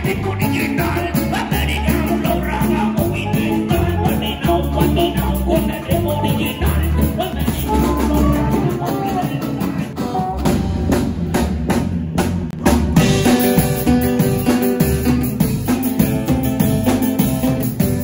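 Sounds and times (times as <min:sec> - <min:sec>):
drum kit with cymbals: 0:00.0 - 0:18.0
live band playing: 0:00.0 - 0:18.0.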